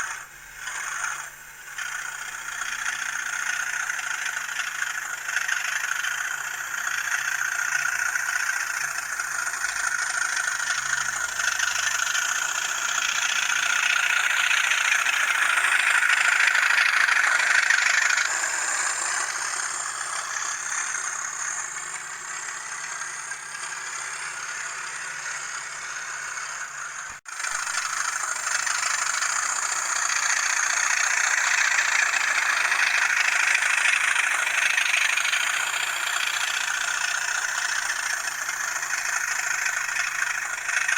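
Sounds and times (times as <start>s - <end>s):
model train diesel engine sound: 0.0s - 40.9s.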